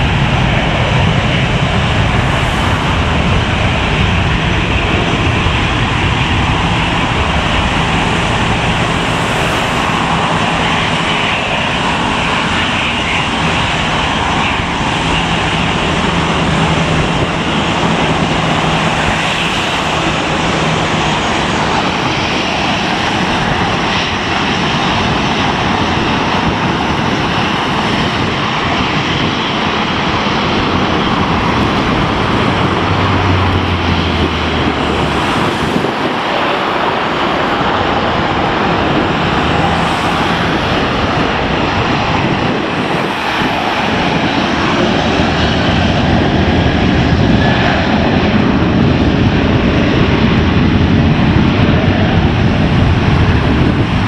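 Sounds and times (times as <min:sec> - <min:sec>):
jet engines of taxiing airliner: 0:00.0 - 0:54.0.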